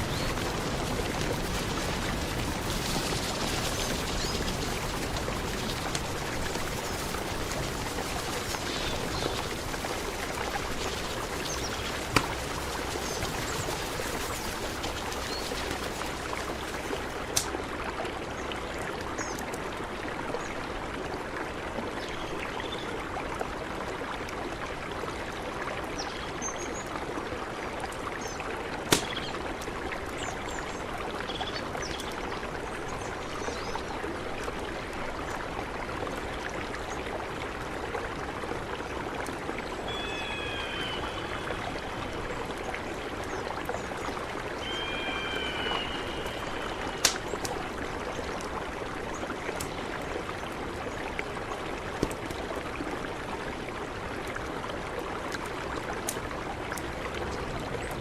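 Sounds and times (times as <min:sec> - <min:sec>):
mountain river flowing: 0:00.0 - 0:58.0.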